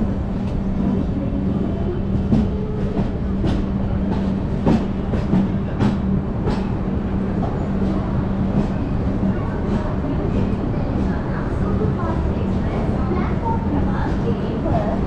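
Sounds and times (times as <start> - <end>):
train coach rumble and hum: 0.0 - 15.0.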